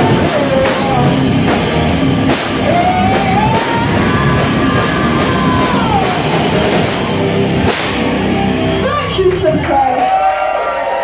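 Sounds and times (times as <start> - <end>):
rock band playing live: 0.0 - 10.2.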